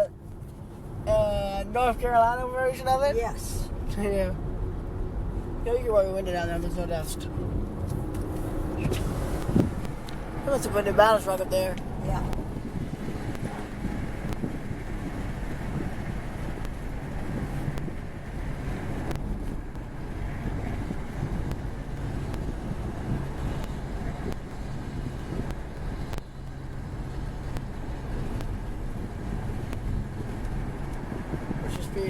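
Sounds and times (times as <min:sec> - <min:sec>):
road and engine rumble in car: 0:00.0 - 0:32.0
wind noise: 0:02.8 - 0:32.0.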